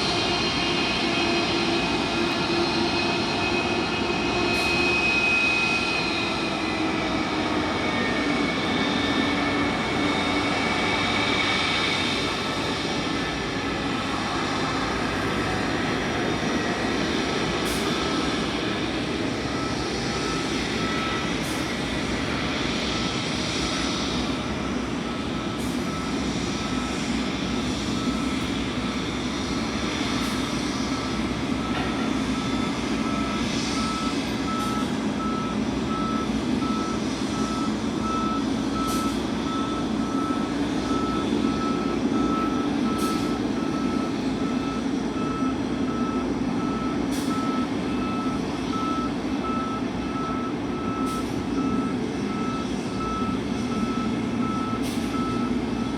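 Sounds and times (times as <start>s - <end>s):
reversing alarm beeping: 0.1s - 55.9s.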